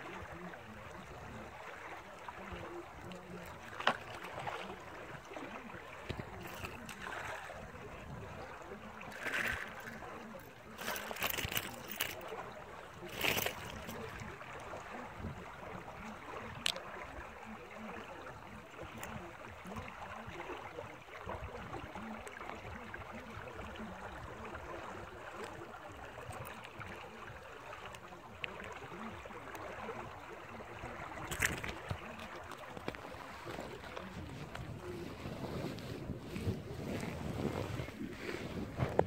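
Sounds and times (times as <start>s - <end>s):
water pouring into canal: 0.0s - 34.6s.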